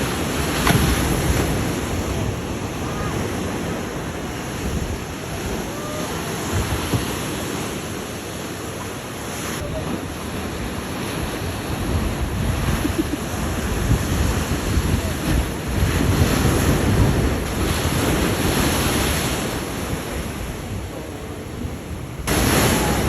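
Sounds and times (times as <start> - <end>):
surf washing: 0.0 - 23.0
wind buffeting microphone: 0.0 - 23.0.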